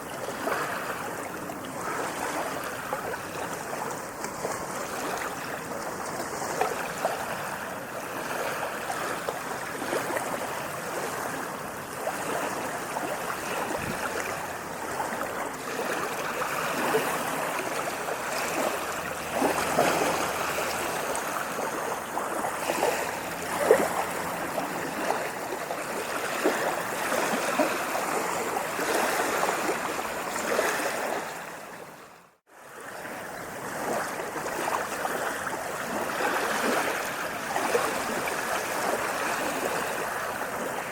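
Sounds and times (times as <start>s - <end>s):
sea waves washing and lapping: 0.0s - 40.9s.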